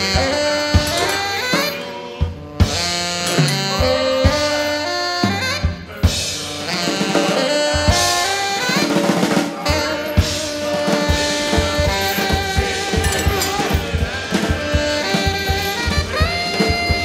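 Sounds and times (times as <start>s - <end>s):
drum kit: 0.0s - 17.0s
keyboard: 0.0s - 17.0s
tenor saxophone: 0.0s - 17.0s.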